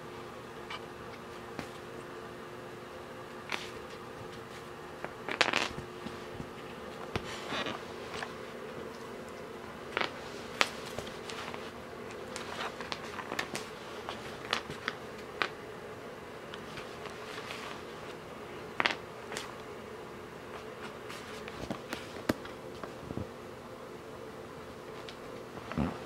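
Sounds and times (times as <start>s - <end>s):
steady buzzing hum: 0.0s - 26.0s.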